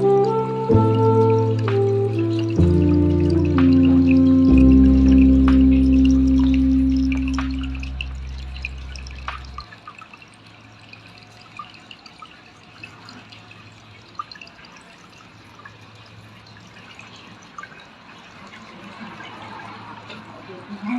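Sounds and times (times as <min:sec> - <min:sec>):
small water drips: 0:00.0 - 0:20.9
water trickling faintly: 0:00.0 - 0:20.9.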